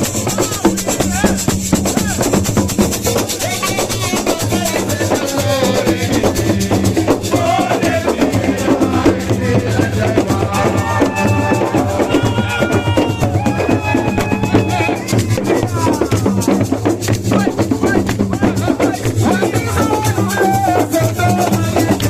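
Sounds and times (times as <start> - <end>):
fast dense drumming: 0.0 - 22.0.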